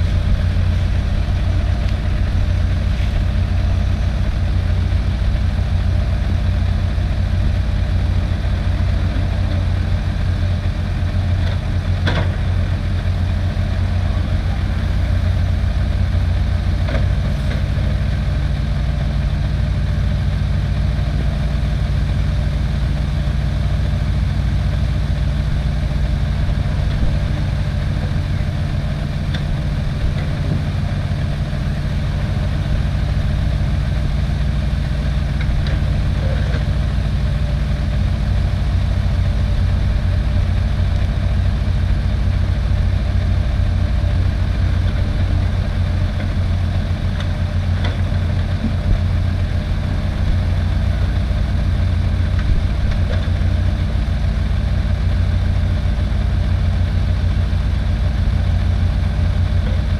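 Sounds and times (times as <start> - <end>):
dump truck idling: 0.0 - 59.9
excavator diesel engine: 0.0 - 59.9.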